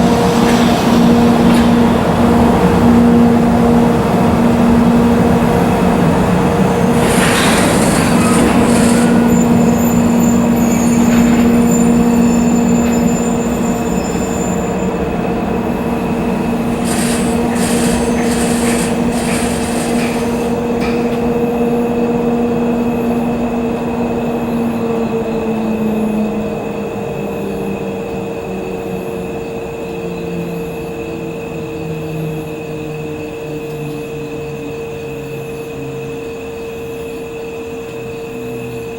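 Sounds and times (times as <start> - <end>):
train clanks: 0.0 - 37.3
train squealing and humming: 0.0 - 38.9.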